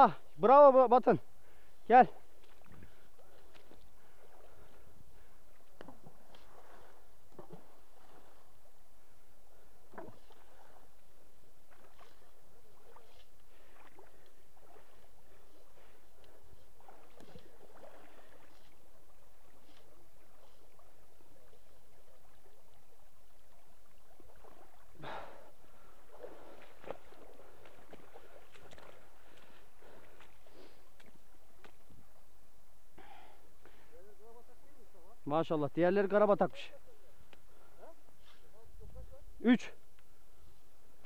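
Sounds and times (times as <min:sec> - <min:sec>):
wading splashes in stream: 0:00.0 - 0:34.2.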